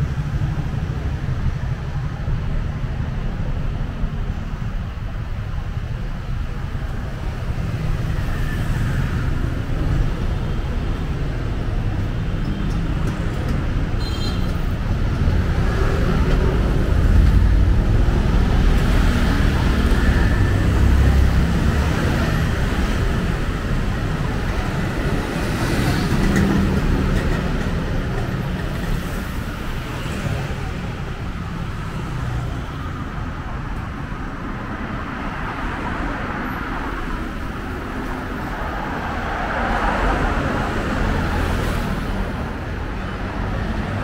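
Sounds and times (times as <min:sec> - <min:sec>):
street traffic rumble: 0:00.0 - 0:44.0.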